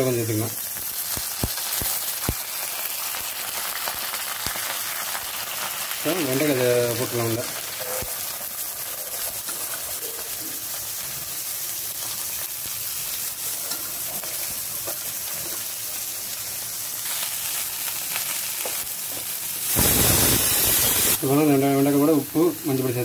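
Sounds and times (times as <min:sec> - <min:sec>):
okra sizzling in hot oil: 0:00.0 - 0:23.0.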